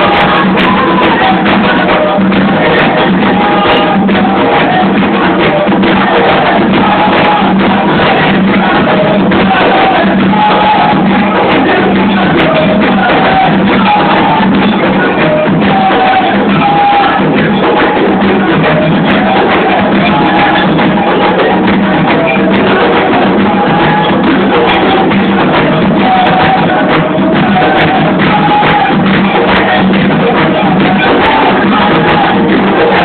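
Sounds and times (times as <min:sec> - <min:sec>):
group of voices singing a chant: 0:00.0 - 0:33.0
ritual hand drumming: 0:00.0 - 0:33.0.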